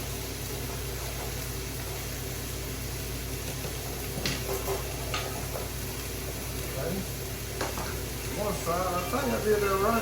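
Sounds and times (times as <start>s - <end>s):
hiss: 0.0s - 9.9s.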